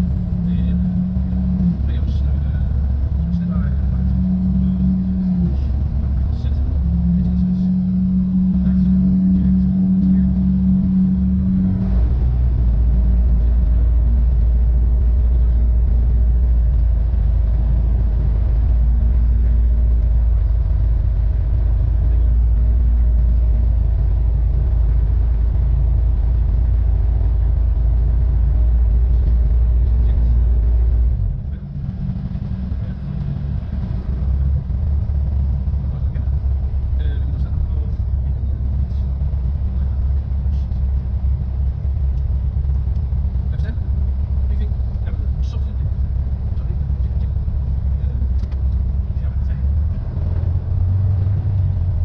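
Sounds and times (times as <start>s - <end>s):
aircraft engine drone: 0.0s - 52.0s.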